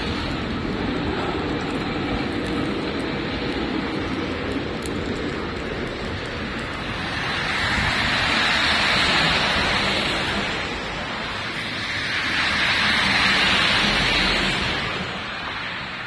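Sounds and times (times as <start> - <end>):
buses and cars passing: 0.0 - 16.0
tyres hissing on wet road: 0.0 - 16.0.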